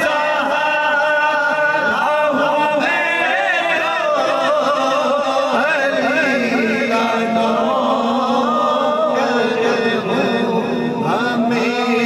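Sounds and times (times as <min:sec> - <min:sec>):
man singing ornamented line: 0:00.0 - 0:12.0
steady held drone: 0:00.0 - 0:12.0.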